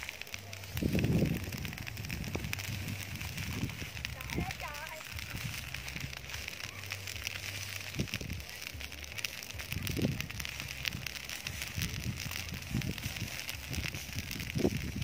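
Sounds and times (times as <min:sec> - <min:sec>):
straw burning crackle: 0:00.0 - 0:15.0
wind rumble on microphone: 0:00.3 - 0:15.0.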